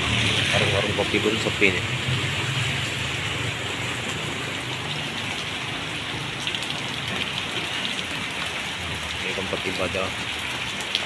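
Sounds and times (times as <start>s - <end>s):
steady rain on street and roofs: 0.0s - 11.0s.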